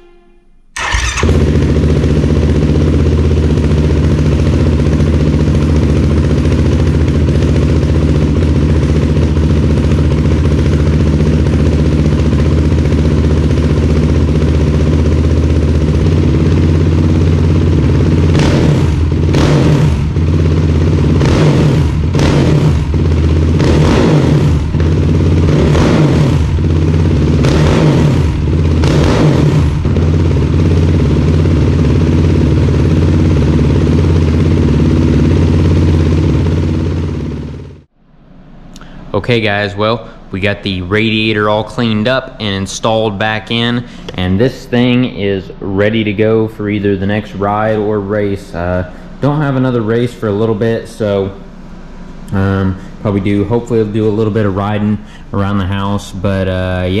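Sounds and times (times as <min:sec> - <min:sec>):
motorcycle engine idling: 0:00.8 - 0:57.0.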